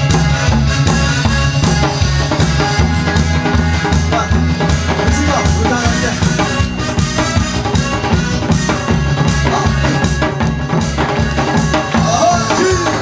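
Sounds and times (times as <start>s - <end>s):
bass line and melody: 0.0s - 13.0s
drum-kit beat: 0.0s - 13.0s.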